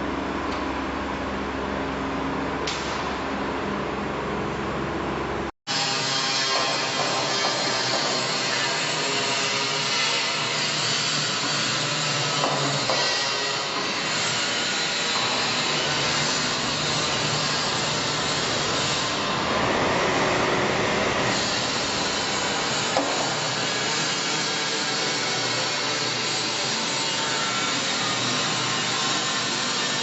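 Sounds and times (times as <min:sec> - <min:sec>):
workshop machinery grinding: 0:00.0 - 0:30.0.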